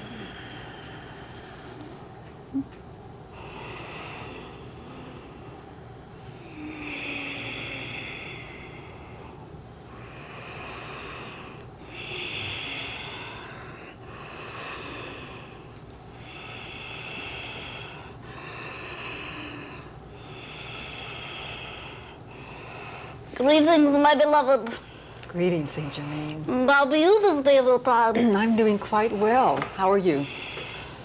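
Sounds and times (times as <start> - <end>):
woman breathing deeply: 0.0 - 2.1, 3.3 - 23.8, 24.4 - 26.6, 28.3 - 31.0.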